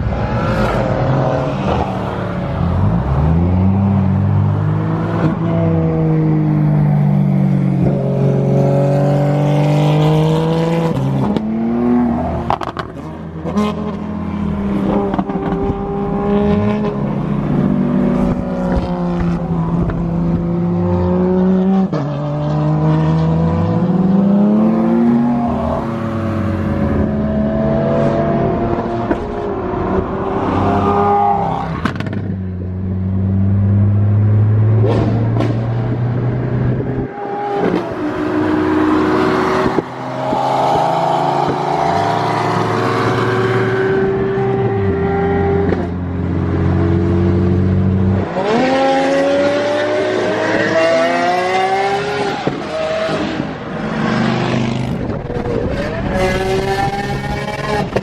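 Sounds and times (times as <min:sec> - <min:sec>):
supercar engines accelerating: 0:00.0 - 0:58.0.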